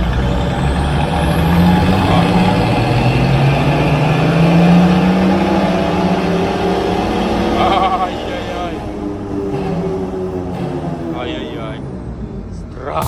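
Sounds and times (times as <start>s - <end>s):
diesel engine pulling under load: 0.0s - 13.0s.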